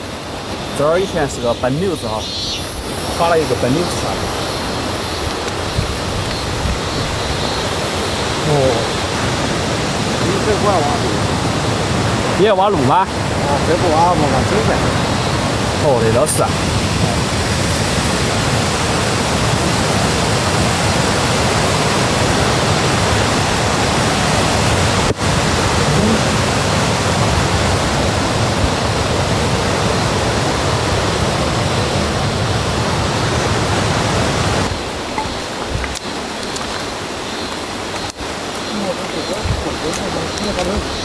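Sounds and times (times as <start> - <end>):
rushing stream or waterfall: 0.0 - 41.0.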